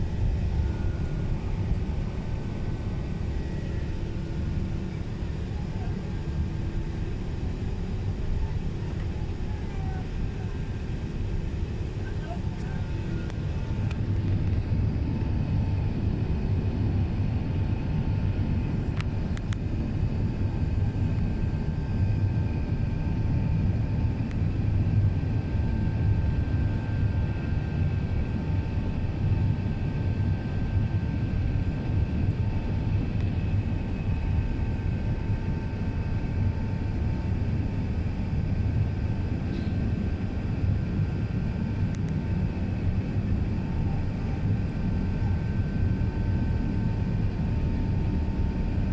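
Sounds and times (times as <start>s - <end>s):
faint steady whine: 0.0s - 48.9s
jet engines and airflow rumble: 0.0s - 48.9s.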